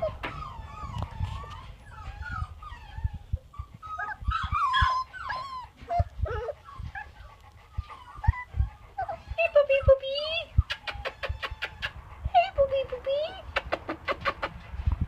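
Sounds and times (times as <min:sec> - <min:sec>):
puppy whimpering: 0:00.0 - 0:14.6.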